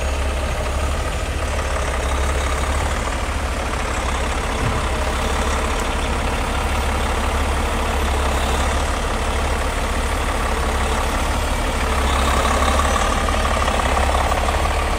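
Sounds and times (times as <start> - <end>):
truck diesel engine rumbling: 0.0 - 14.9.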